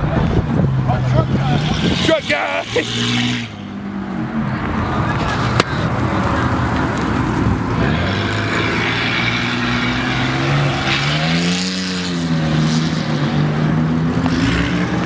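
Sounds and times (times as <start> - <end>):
vehicle engine revving: 0.2 - 15.0.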